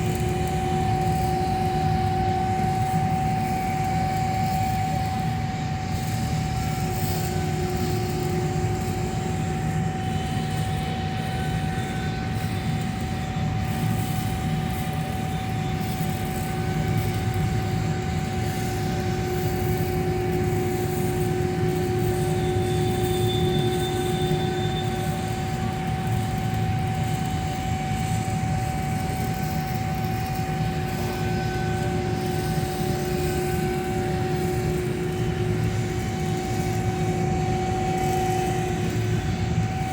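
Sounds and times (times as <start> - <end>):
welding machine drone: 0.0 - 39.9.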